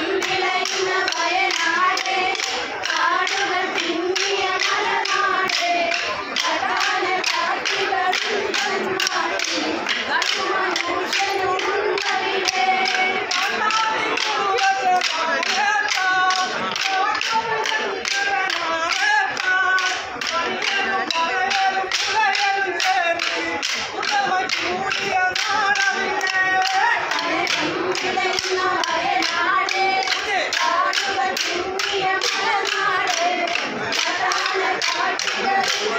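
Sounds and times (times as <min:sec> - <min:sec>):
group singing folk song: 0:00.0 - 0:35.9
wooden sticks clacking: 0:00.0 - 0:35.9.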